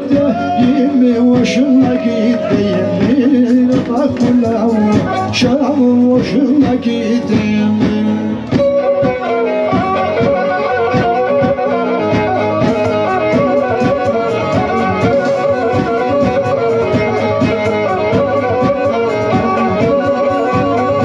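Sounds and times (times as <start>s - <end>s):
bowed fiddle folk tune: 0.0s - 21.0s
steady rapid beat: 0.0s - 21.0s.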